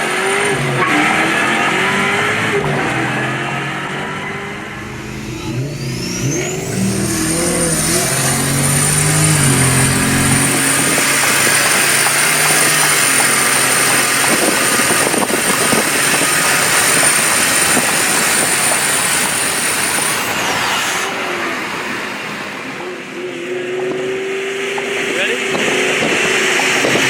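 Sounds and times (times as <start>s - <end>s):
vehicles racing at speed: 0.0s - 27.0s.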